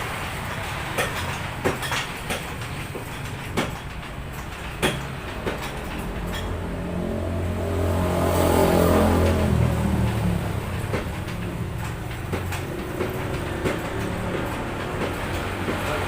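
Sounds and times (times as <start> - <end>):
vehicle engine hum: 0.0 - 16.0
sharp metal knocks: 0.4 - 16.0.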